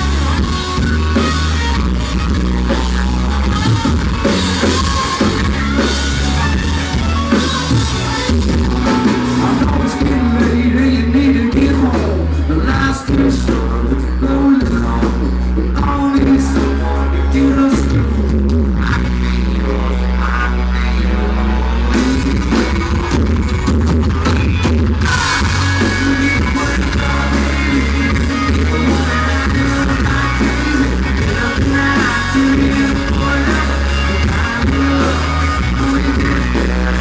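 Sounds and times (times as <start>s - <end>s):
booming bass: 0.0s - 37.0s
drums: 0.0s - 37.0s
guitar: 0.0s - 37.0s.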